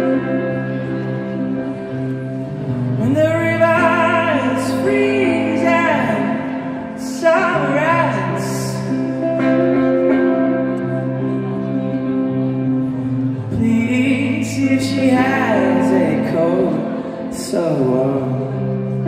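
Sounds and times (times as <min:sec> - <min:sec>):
electric guitar chords: 0:00.0 - 0:19.0
keyboard chords: 0:00.0 - 0:19.0
person singing with vibrato: 0:00.0 - 0:19.0.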